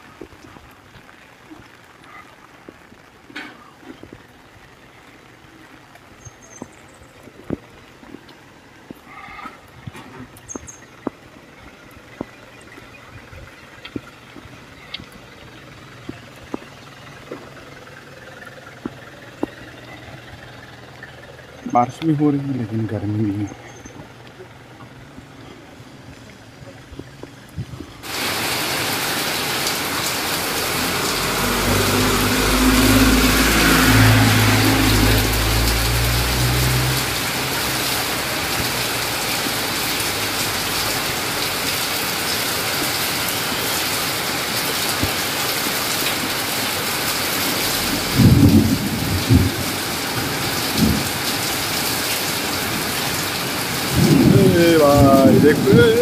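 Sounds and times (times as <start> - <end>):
rain on wet street: 0.0 - 56.0
vehicle engine hum: 0.0 - 56.0.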